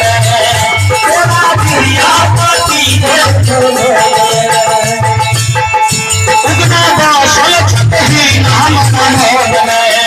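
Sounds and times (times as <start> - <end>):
man singing: 0.0 - 5.7, 6.3 - 10.0
dholak drum beat: 0.0 - 10.0
harmonium: 0.0 - 10.0
jingling hand percussion: 0.0 - 10.0.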